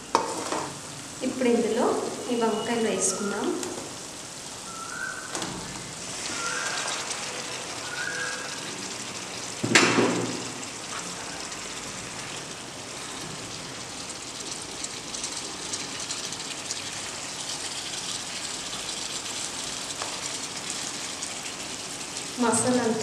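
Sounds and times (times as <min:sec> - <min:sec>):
gravy sizzling in a pan: 0:00.0 - 0:23.0.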